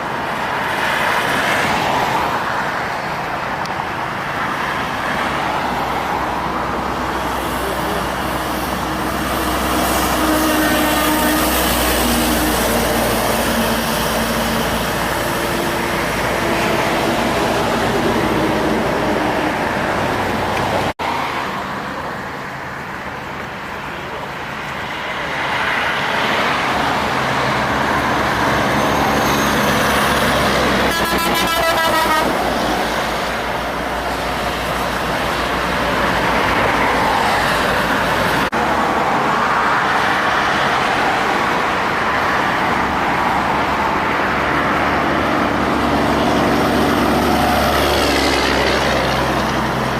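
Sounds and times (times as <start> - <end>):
heavy trucks passing: 0.0 - 49.9.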